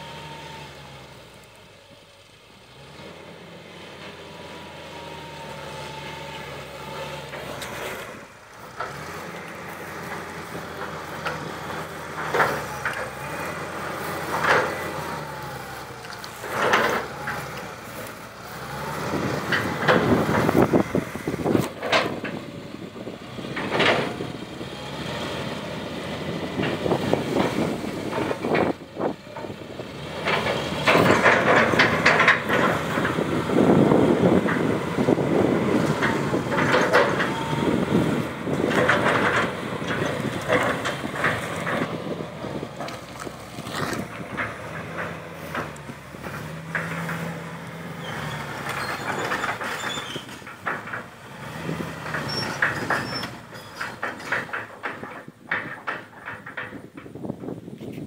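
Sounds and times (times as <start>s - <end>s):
excavator diesel engine: 0.0s - 58.0s
wood cracking and crackling: 5.7s - 22.6s, 23.3s - 57.8s.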